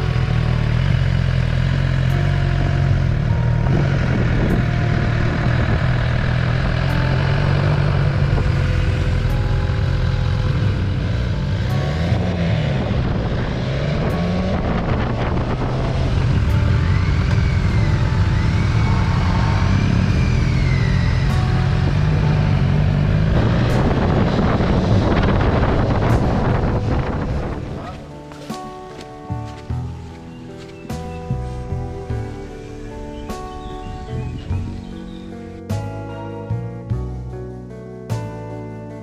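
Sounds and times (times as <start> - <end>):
motorcycle engine running: 0.0 - 37.3.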